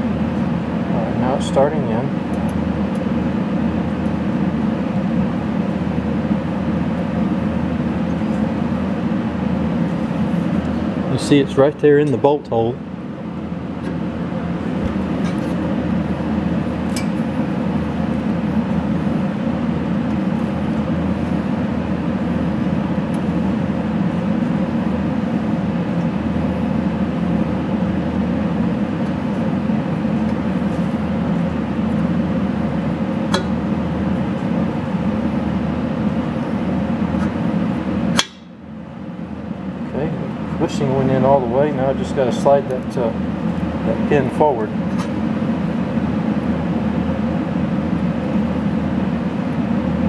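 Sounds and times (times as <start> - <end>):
low background hum: 0.0 - 50.0.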